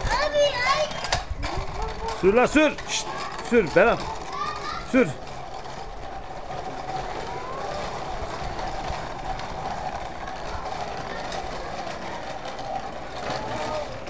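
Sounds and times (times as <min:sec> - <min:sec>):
plastic wheels rolling on concrete: 0:00.0 - 0:14.0.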